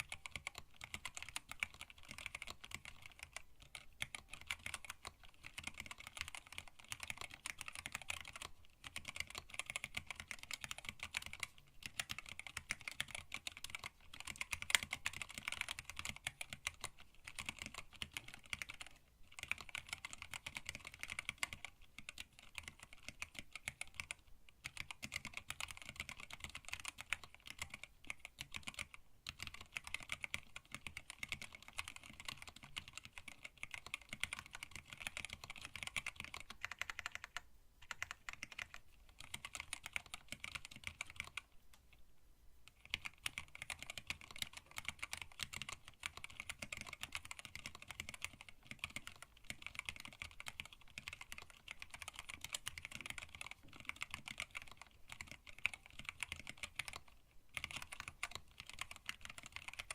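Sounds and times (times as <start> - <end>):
mechanical keyboard typing clacks: 0.0 - 41.4, 42.7 - 59.9.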